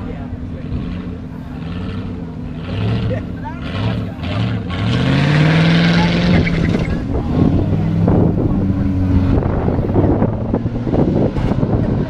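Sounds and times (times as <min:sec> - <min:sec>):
car engine running loudly: 0:00.0 - 0:12.0.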